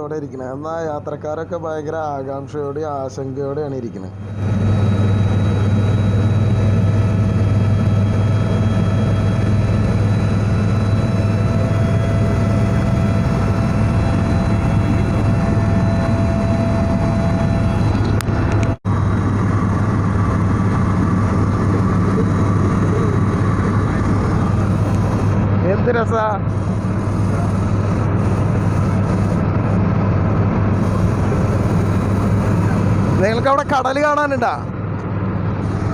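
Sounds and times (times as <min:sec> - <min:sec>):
helicopter engine and rotor drone: 0:00.6 - 0:35.9.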